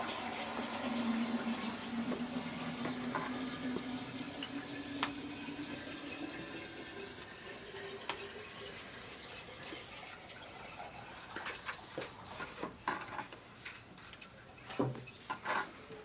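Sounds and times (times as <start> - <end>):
utensils clinking on dishes: 0.0 - 16.0.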